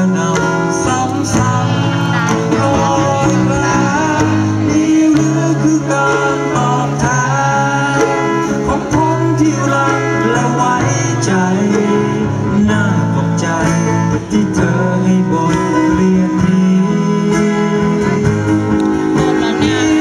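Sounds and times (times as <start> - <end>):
acoustic guitars strumming: 0.0 - 20.0
man singing into a microphone: 0.0 - 20.0.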